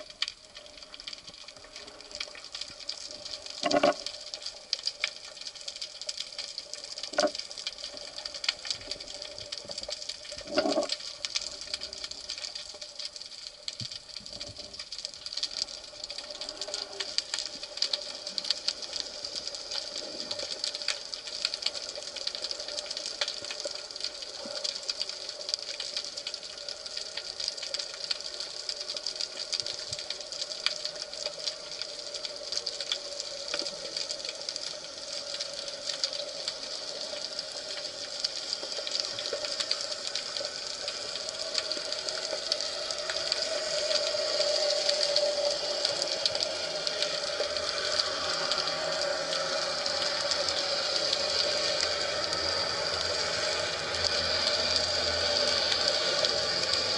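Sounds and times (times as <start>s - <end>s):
faint steady hum: 0.0s - 56.9s
underwater crackle of tiny clicks: 0.0s - 56.9s.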